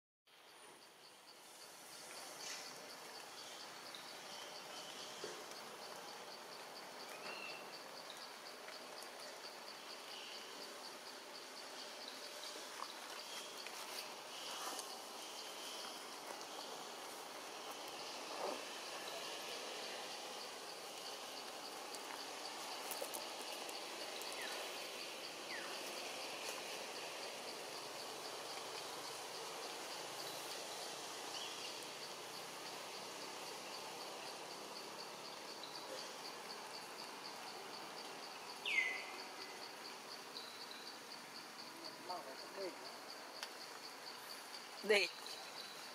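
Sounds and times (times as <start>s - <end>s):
background hiss: 0.3s - 45.9s
insect chirping: 0.3s - 45.9s.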